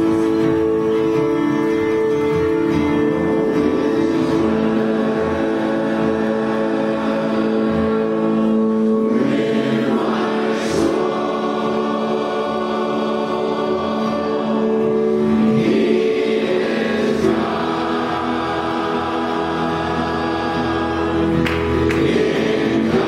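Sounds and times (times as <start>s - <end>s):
congregation singing worship song: 0.0s - 23.0s.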